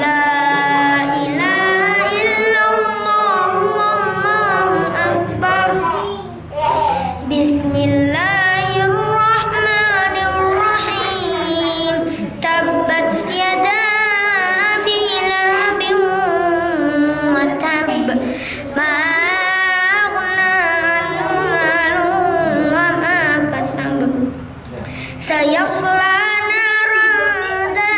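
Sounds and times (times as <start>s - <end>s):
boy chanting melodically: 0.0s - 27.9s.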